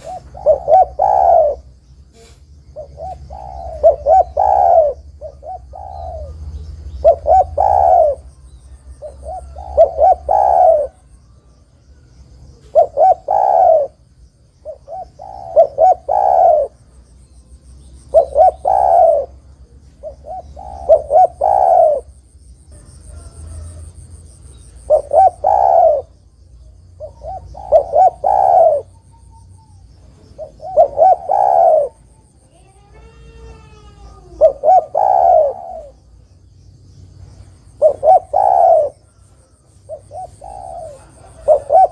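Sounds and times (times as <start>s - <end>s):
dove cooing: 0.0s - 11.7s, 12.4s - 14.0s, 14.6s - 16.9s, 18.1s - 26.2s, 26.9s - 36.1s, 37.6s - 41.9s
faint high-pitched chirping: 0.0s - 41.9s.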